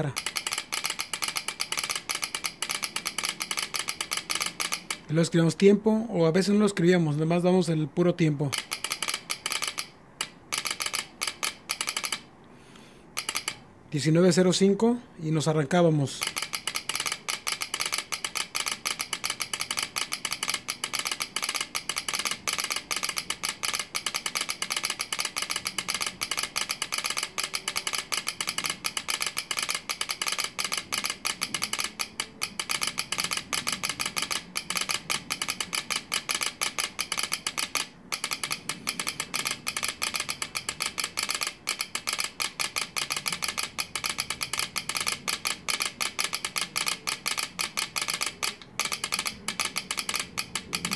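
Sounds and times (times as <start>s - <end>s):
telegraph key clicking: 0.0s - 5.2s, 8.5s - 12.3s, 13.2s - 13.6s, 16.2s - 50.9s.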